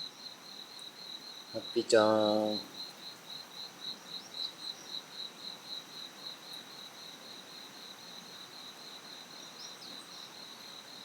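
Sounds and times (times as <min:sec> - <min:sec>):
background hiss: 0:00.0 - 0:11.0
insect chirping: 0:00.0 - 0:11.0.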